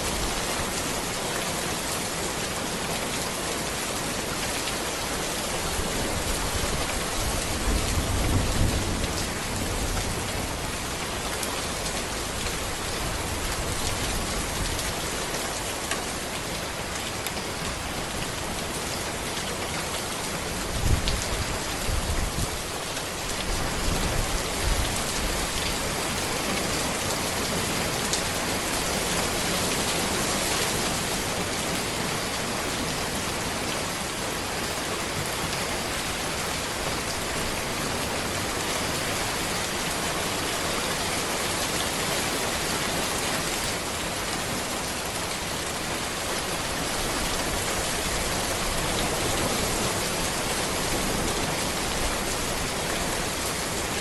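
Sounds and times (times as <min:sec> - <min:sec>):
rain falling on a road: 0:00.0 - 0:54.0.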